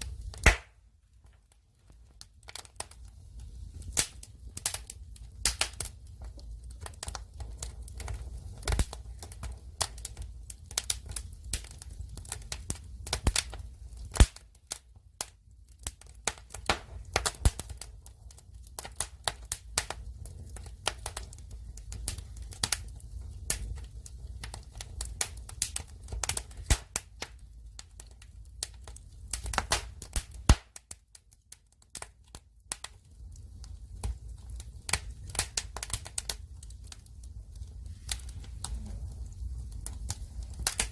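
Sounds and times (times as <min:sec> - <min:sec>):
logs crackling and popping: 0:00.0 - 0:40.9
low rumble of flame: 0:00.0 - 0:40.9.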